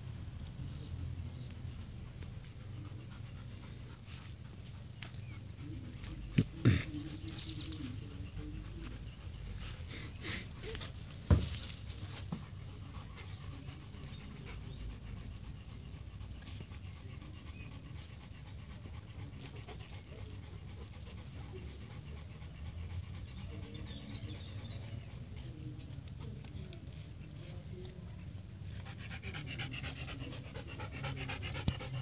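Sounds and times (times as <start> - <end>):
dog panting: 0.7 - 32.0.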